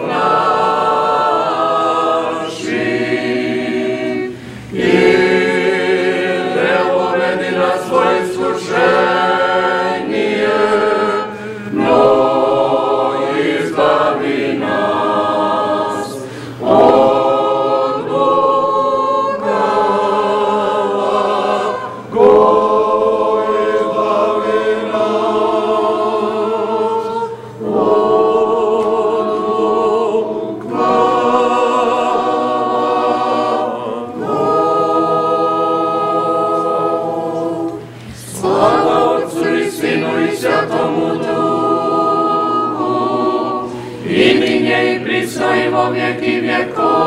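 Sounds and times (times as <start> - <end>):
group singing a cappella chant: 0.0 - 47.0.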